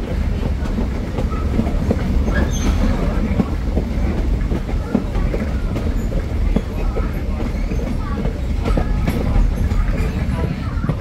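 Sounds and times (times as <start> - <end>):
train coach rumbling: 0.0 - 11.0
wheels clacking over rail joints: 0.0 - 11.0.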